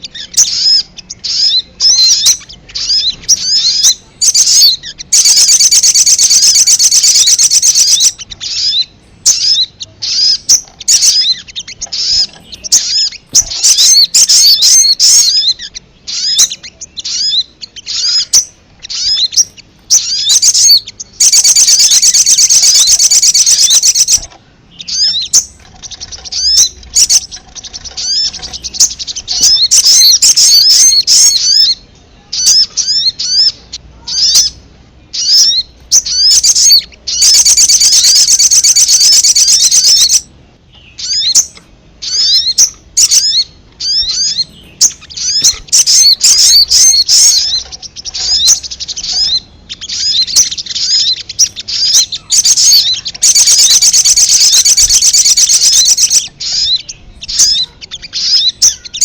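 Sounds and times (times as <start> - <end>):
bird chattering run: 0.0 - 31.8, 32.4 - 59.0
bird chirping: 0.0 - 59.0.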